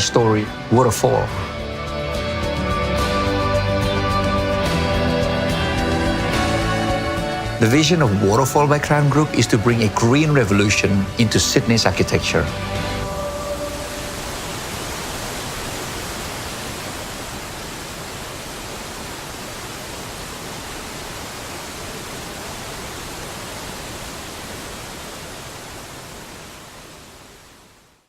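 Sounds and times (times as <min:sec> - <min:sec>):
rushing falling water: 0:04.6 - 0:28.0.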